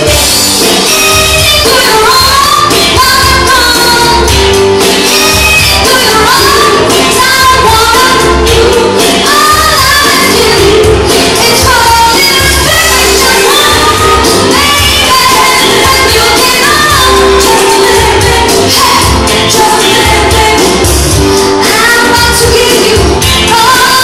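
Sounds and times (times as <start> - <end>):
pop backing music: 0.0 - 24.0
woman singing into microphone: 1.0 - 24.0.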